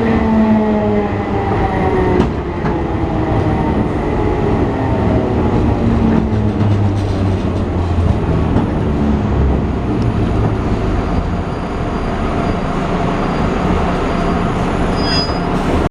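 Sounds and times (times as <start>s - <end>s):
wheels rumbling on rail: 0.0s - 15.9s
train motor hum: 1.4s - 15.9s.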